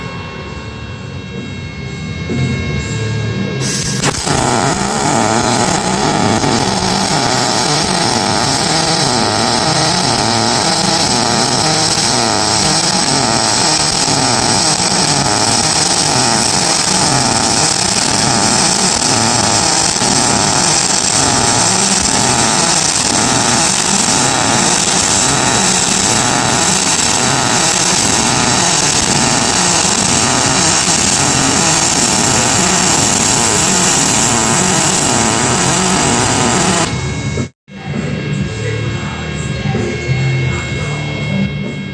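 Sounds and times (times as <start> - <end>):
pulsing welding arc buzz: 3.6 - 37.6.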